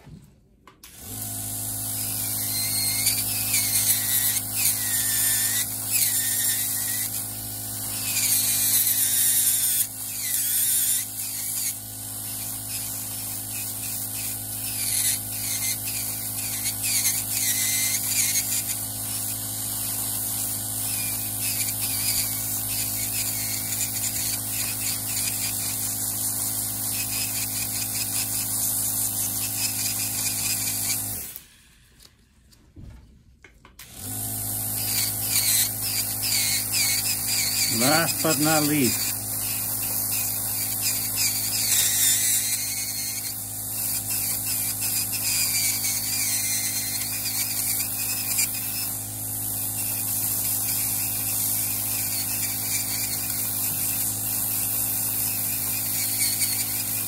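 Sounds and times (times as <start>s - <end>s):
electric nail drill grinding toenail: 0.8s - 31.4s, 33.8s - 57.0s.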